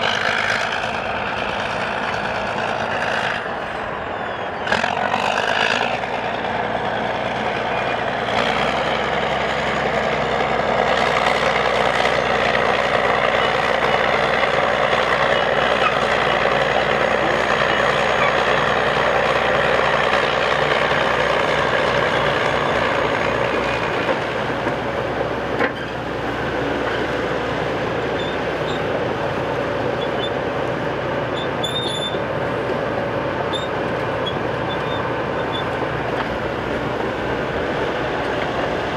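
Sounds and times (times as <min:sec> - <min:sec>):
bulldozer running: 0:00.0 - 0:38.9.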